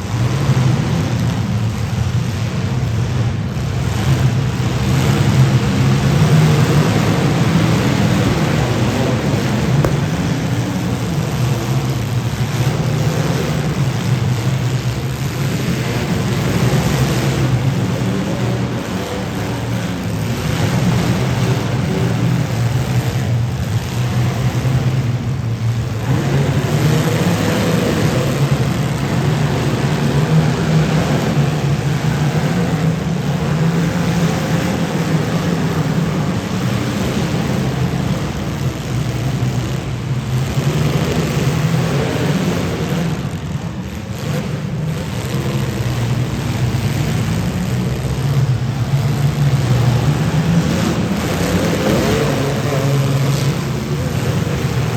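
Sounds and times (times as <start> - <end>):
car engines revving loud: 0.0 - 54.9.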